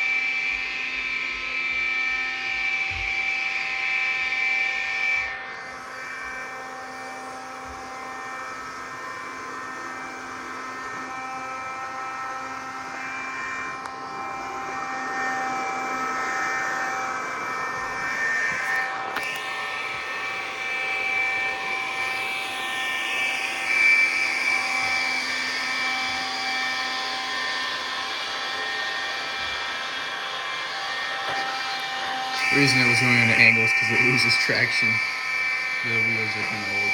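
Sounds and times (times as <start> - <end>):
robot floor scrubber motor whine: 0.0 - 36.9.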